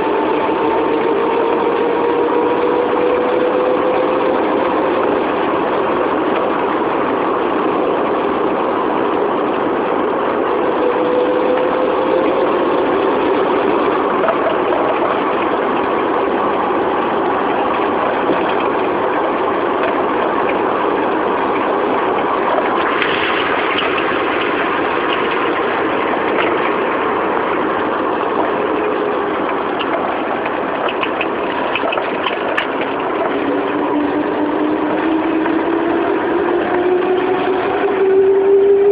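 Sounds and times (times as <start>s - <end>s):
car engine running: 0.0s - 38.9s
faint whining tone: 0.0s - 38.9s.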